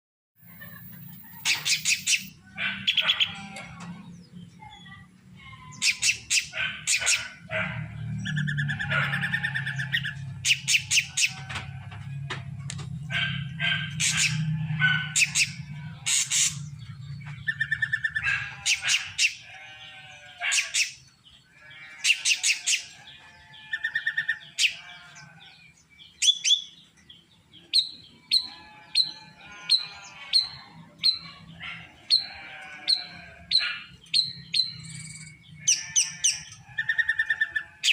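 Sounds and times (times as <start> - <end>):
bird singing varied song: 0.4 - 11.5, 13.2 - 37.9.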